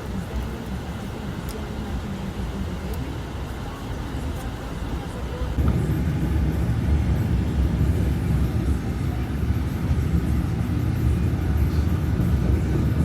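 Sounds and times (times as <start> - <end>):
truck road rumble: 0.0 - 13.0.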